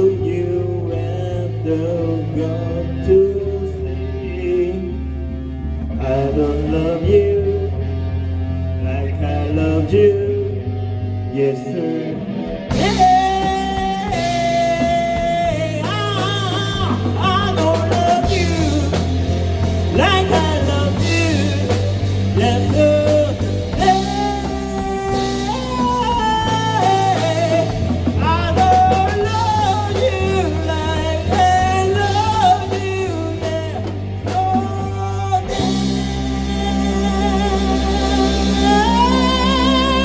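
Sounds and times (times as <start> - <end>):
rock chords and bass: 0.0 - 40.0
rock lead guitar: 0.0 - 40.0.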